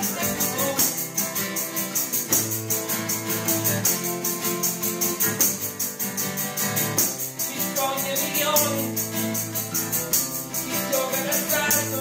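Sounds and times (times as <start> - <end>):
acoustic guitar strumming: 0.0 - 12.0
tambourine beat: 0.0 - 12.0.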